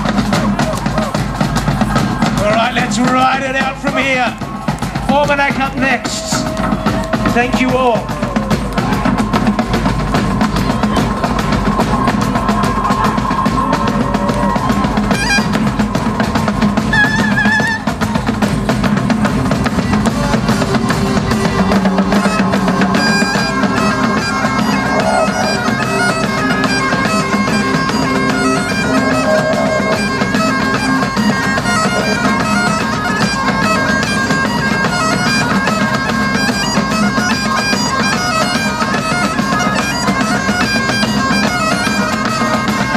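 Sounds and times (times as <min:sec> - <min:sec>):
bagpipes playing with drone: 0:00.0 - 0:42.9
heavy drumming: 0:00.0 - 0:42.9.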